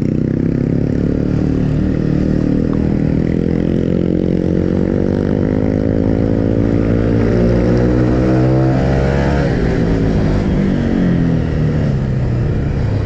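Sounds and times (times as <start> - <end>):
motorcycle engine accelerating: 0.0 - 13.0
wind and road noise: 0.0 - 13.0.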